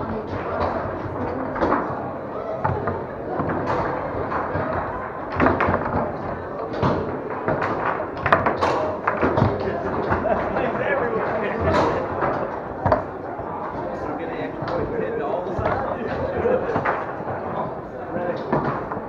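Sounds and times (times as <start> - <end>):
background chatter of voices: 0.0 - 19.0
foosball rods clunking: 0.1 - 19.0
foosball ball rattling: 0.3 - 19.0.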